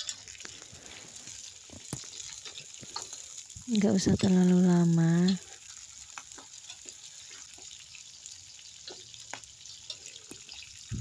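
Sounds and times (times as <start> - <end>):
beans sizzling in hot oil: 0.0 - 11.0.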